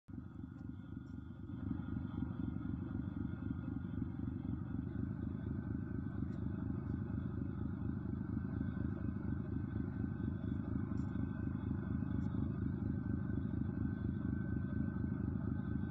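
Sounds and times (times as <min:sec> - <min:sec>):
engine pulsing rumble: 0:00.1 - 0:15.9.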